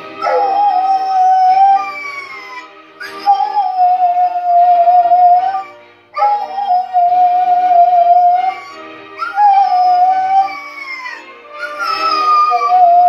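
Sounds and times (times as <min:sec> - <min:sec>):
anthem playing from television: 0:00.0 - 0:13.0
dog howling: 0:00.2 - 0:13.0.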